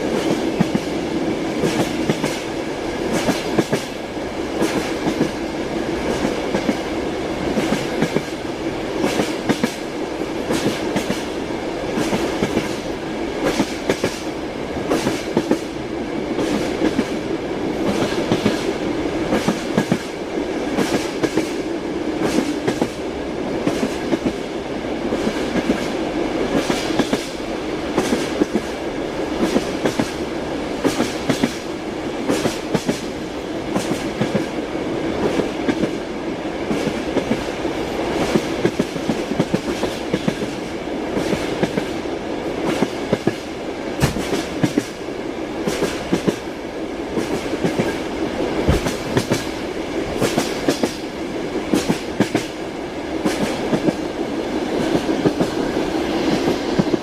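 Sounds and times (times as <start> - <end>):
railway carriage rumble: 0.0 - 57.0.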